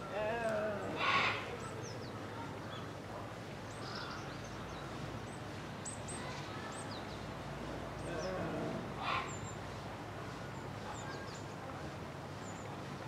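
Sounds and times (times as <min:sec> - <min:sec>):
small birds chirping: 0:00.0 - 0:03.0, 0:03.6 - 0:09.8, 0:10.4 - 0:11.6, 0:12.2 - 0:13.0
outdoor background noise: 0:00.0 - 0:13.0.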